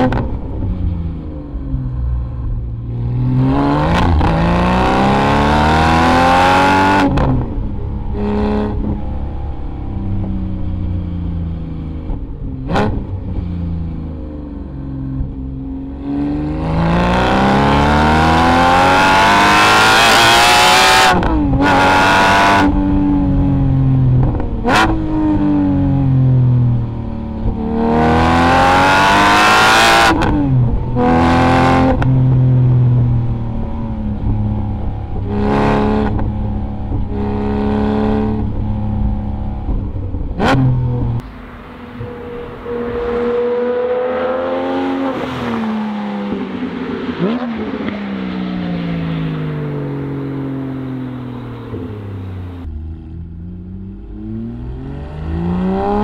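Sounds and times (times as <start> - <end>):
sports car engine accelerating hard: 0.0 - 56.0.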